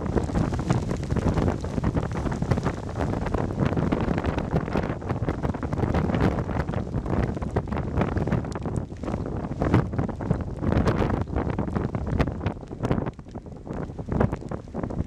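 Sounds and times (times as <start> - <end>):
low rumble: 0.0 - 15.0
wind buffeting microphone: 0.0 - 15.0.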